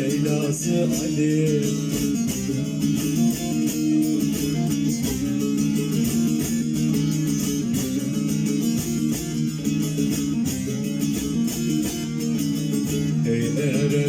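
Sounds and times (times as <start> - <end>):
plucked saz playing: 0.0 - 14.0.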